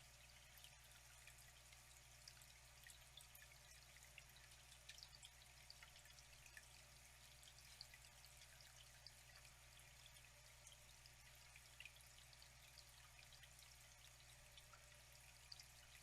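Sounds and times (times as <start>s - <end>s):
water trickling with drips: 0.0s - 16.0s.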